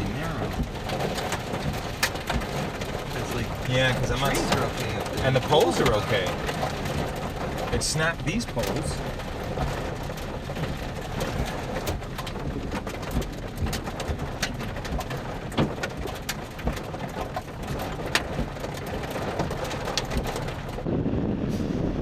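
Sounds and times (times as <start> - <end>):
rain ticking on vehicle: 0.0 - 21.5
vehicle rumbling: 0.0 - 22.0.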